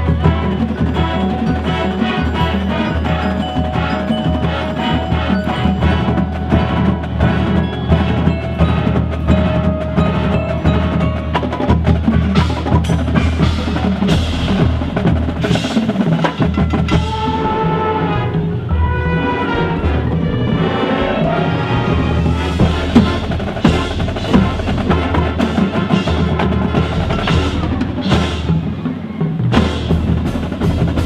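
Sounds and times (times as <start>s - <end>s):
marching band drum strokes: 0.0s - 31.0s.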